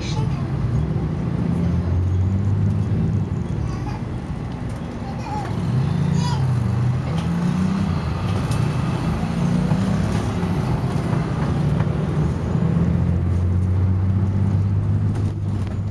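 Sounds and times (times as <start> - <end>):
bus engine running: 0.0 - 15.9.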